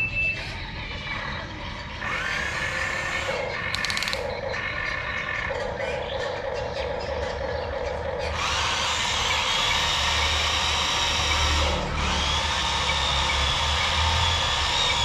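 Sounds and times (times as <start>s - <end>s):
electric motors whining: 0.0s - 5.5s, 7.4s - 15.0s.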